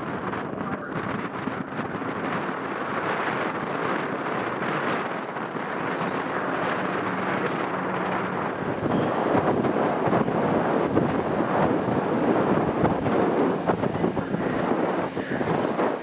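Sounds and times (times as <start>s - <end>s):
ship's wash: 0.0s - 16.0s
wind buffeting microphone: 0.0s - 16.0s.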